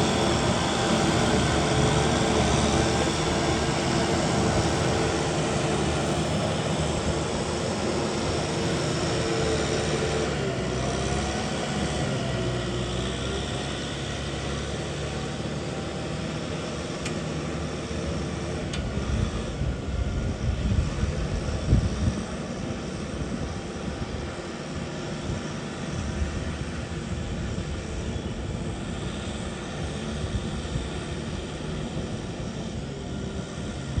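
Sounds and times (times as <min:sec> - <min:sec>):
engine rumbling: 0:00.0 - 0:34.0.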